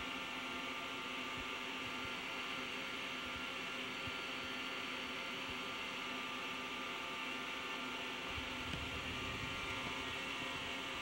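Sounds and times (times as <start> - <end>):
machine hum with tones: 0.0 - 11.0.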